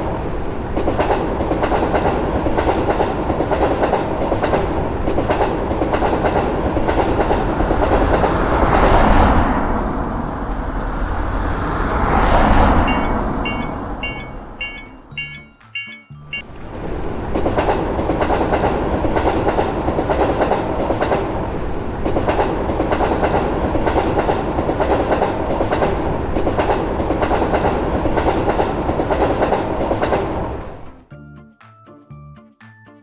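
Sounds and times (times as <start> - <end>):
train wheels clattering over rails: 0.0 - 15.9, 16.7 - 31.0.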